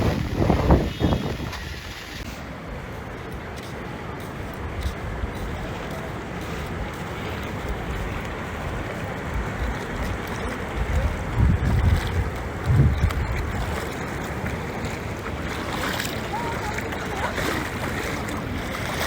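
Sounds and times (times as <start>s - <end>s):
floodwater rushing: 0.0s - 19.0s
wind buffeting microphone: 0.0s - 19.0s.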